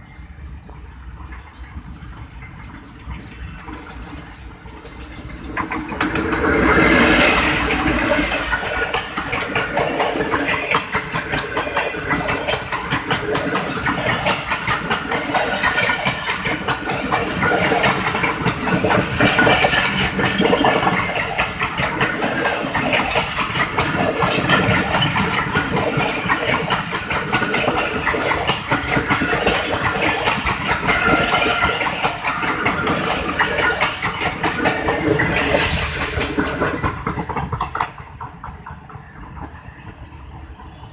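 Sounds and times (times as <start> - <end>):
train wheels clattering on rails: 0.6 - 40.9
locomotive passing at speed: 2.0 - 40.9.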